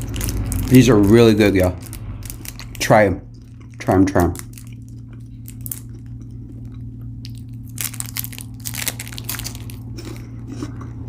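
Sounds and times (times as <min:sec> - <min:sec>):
chocolate bar crunching: 0:00.0 - 0:11.0
steady low hum: 0:00.0 - 0:11.0.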